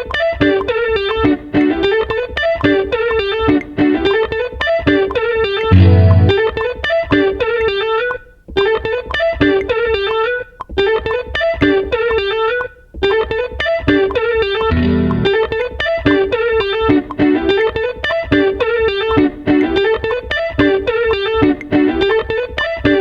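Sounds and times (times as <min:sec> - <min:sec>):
plucked-string melody over beat: 0:00.0 - 0:23.0.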